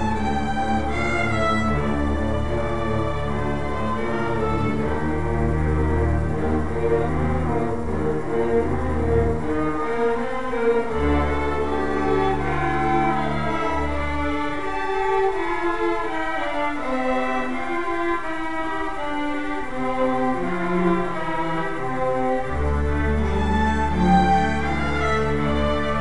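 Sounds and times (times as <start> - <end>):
string orchestra playing: 0.0 - 26.0.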